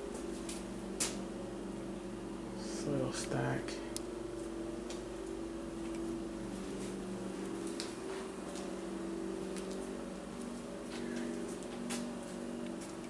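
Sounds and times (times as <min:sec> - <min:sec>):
household machine humming: 0:00.0 - 0:13.0.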